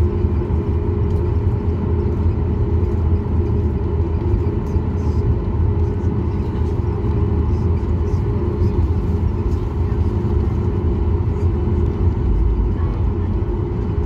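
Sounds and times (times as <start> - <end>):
jet engines rumbling and humming: 0.0 - 14.0.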